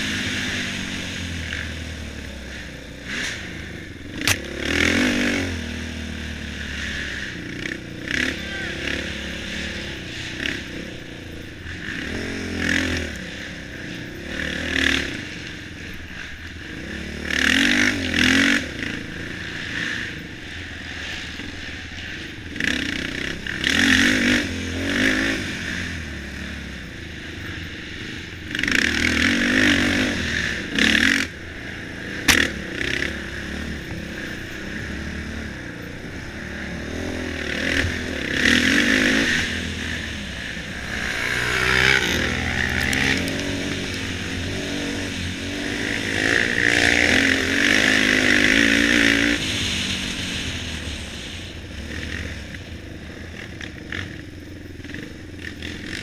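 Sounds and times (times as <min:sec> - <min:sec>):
off-road engine revving: 0:00.0 - 0:56.0.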